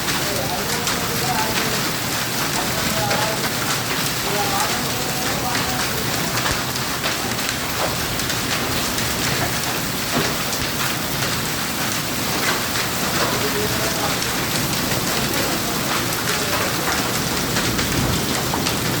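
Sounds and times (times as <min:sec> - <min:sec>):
hail and rain pelting down: 0:00.0 - 0:19.0.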